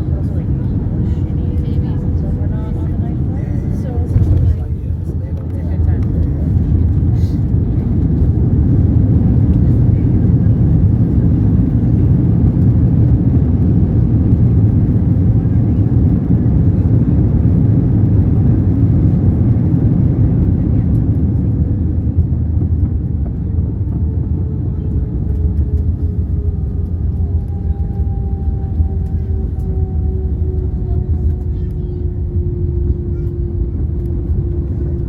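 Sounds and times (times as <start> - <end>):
jet engines and wheels rumbling: 0.0 - 35.0.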